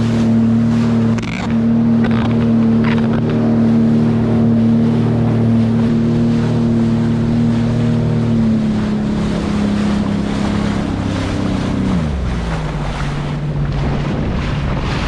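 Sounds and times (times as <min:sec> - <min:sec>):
jet ski engine humming: 0:00.0 - 0:15.0
water splashing off hull: 0:00.0 - 0:15.0
wind buffeting microphone: 0:00.0 - 0:15.0.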